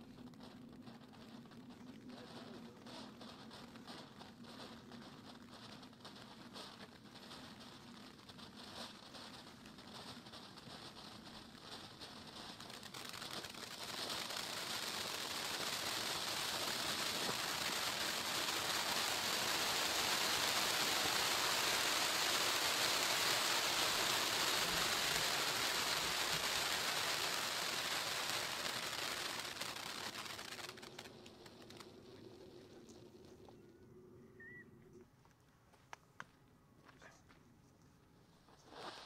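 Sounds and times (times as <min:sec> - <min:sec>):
firework fountain hissing sparks: 0:00.0 - 0:33.3, 0:38.5 - 0:39.0.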